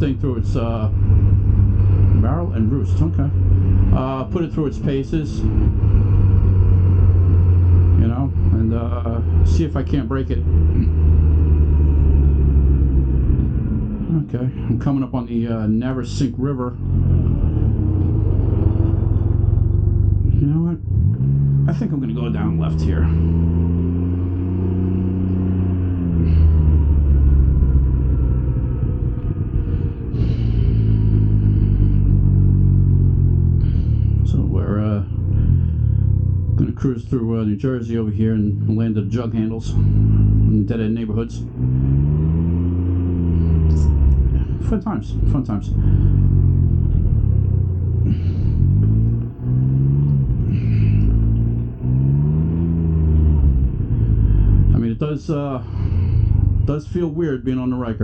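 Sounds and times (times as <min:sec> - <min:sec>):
motorcycle engine running: 0:00.0 - 0:15.0, 0:15.6 - 0:56.9
road and wind noise: 0:00.0 - 0:58.0.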